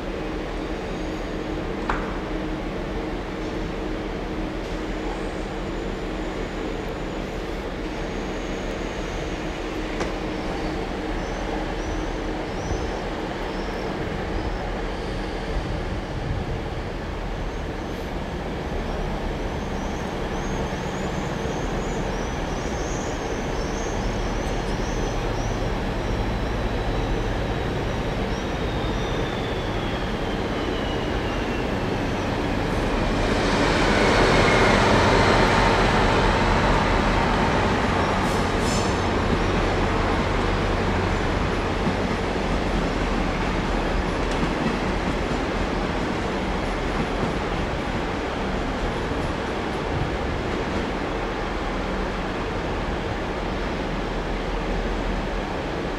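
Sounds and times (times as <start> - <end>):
train rumble and hum: 0.0 - 55.9.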